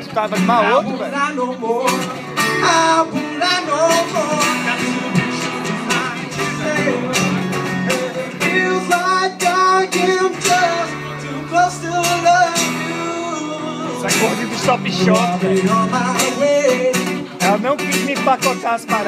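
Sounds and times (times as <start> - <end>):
acoustic guitars strummed: 0.0 - 19.0
man singing into microphone: 0.4 - 19.0.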